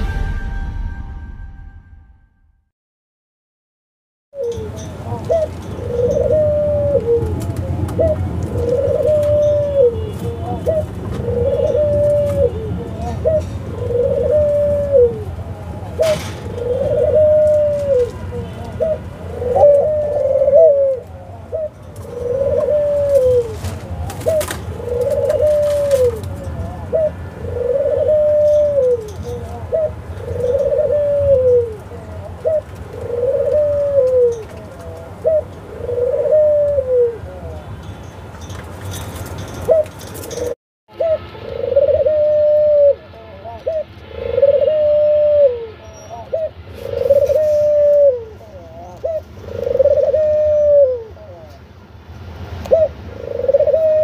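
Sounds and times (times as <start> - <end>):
dove cooing: 4.4 - 37.6, 39.6 - 51.6, 52.7 - 54.0.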